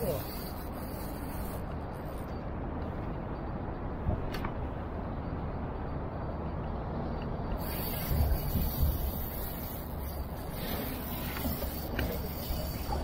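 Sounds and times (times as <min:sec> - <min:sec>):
wind rumble on microphone: 0:00.5 - 0:13.0.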